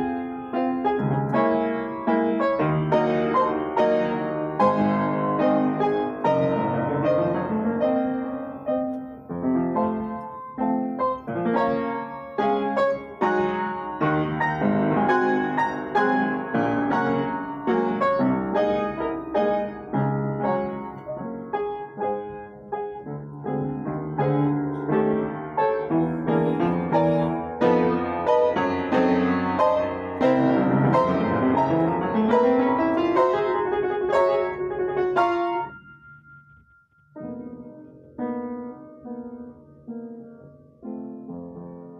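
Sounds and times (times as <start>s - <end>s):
solo piano: 0.0s - 41.9s.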